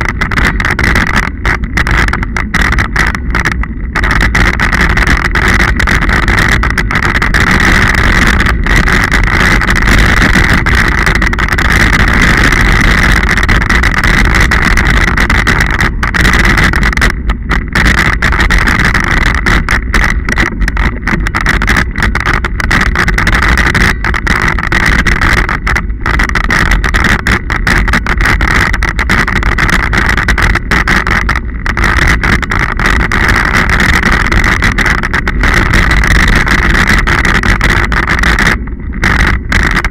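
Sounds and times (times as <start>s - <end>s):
bike rattling: 0.0s - 39.9s
bike tyres rumbling on gravel: 0.0s - 39.9s
wind on camera: 0.0s - 39.9s.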